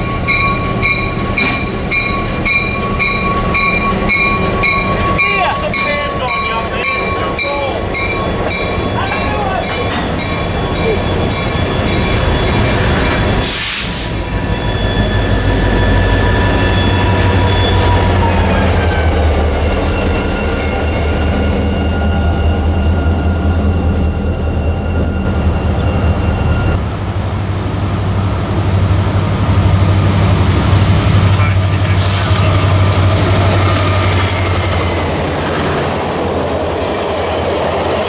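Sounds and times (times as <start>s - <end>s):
high multi-tone squeal: 0.0s - 38.0s
train rumbling past: 0.0s - 38.0s.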